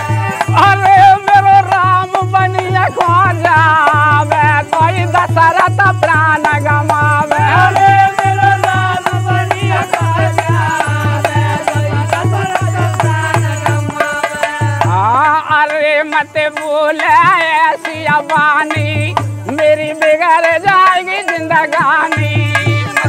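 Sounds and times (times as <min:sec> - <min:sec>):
hand drum beat: 0:00.0 - 0:23.0
jingling percussion: 0:00.0 - 0:23.0.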